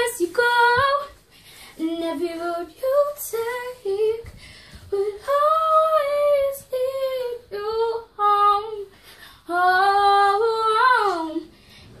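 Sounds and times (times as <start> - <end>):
girl singing: 0.0 - 11.6.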